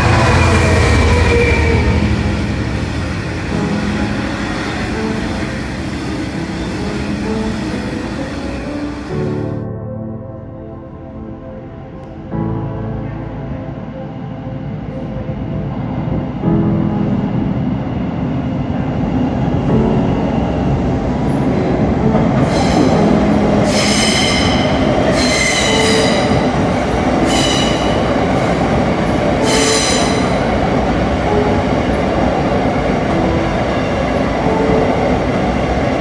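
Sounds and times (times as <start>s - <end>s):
train wheels rumbling on rail: 0.0s - 9.4s, 14.9s - 36.0s.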